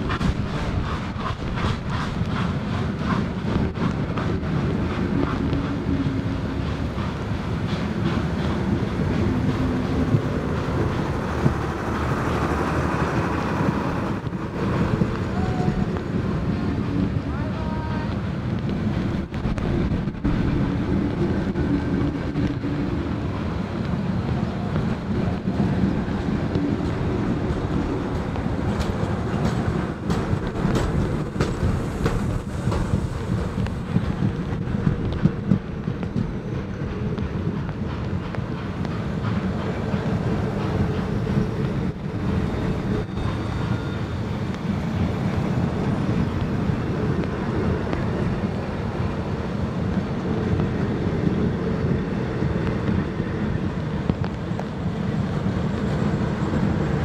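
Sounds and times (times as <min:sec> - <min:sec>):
train carriages rumbling on rails: 0:00.0 - 0:57.0.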